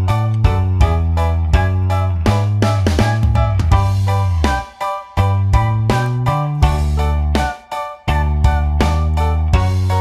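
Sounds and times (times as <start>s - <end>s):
keyboard notes over bass line: 0.0s - 10.0s
upbeat children's background music: 0.0s - 10.0s.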